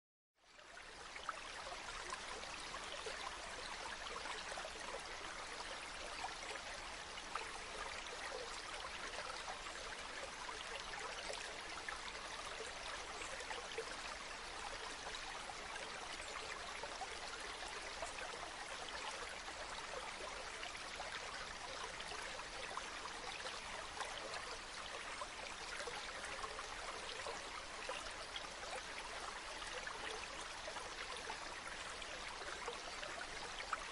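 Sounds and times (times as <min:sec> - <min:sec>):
stream flowing over stones: 0:00.4 - 0:33.9.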